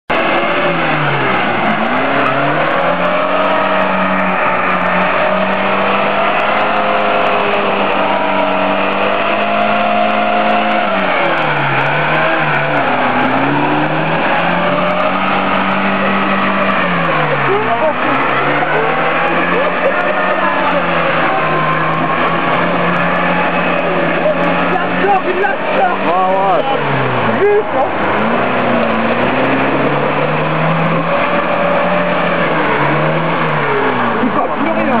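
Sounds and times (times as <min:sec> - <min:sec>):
car engine revving hard: 0:00.1 - 0:35.0
wheels spinning in mud: 0:00.2 - 0:35.0.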